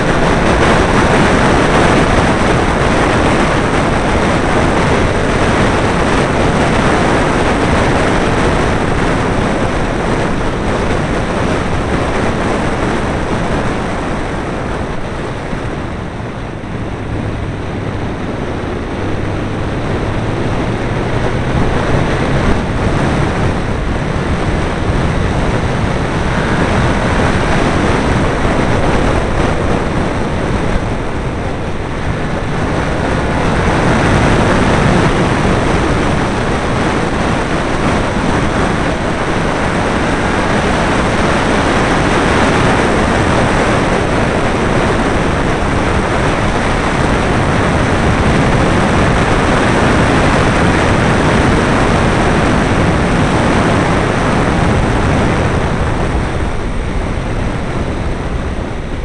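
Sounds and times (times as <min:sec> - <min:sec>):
car engine at speed: 0:00.0 - 0:59.0
wind buffeting microphone: 0:00.0 - 0:59.0.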